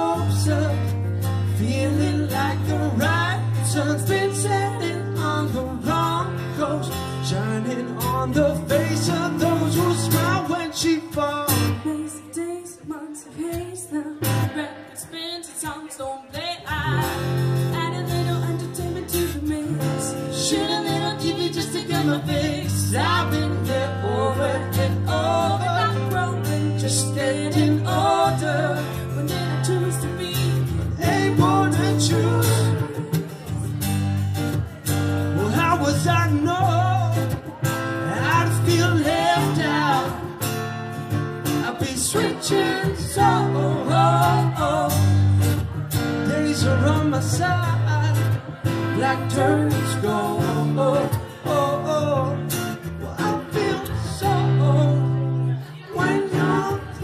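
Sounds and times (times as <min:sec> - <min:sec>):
acoustic guitar strummed: 0:00.0 - 0:12.2, 0:16.8 - 0:57.0
person singing: 0:01.6 - 0:33.8, 0:41.6 - 0:45.4, 0:46.2 - 0:57.0.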